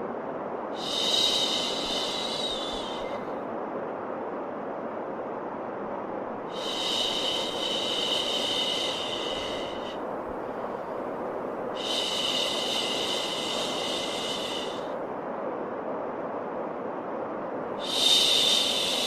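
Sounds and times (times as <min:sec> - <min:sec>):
steady white noise: 0:00.0 - 0:19.0.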